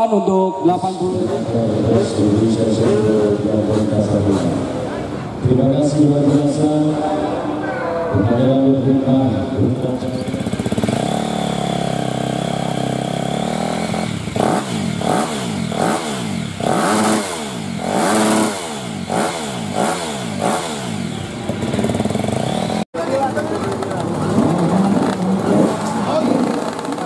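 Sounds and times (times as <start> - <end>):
motocross bike engine revving: 0.8 - 4.9, 9.0 - 27.0.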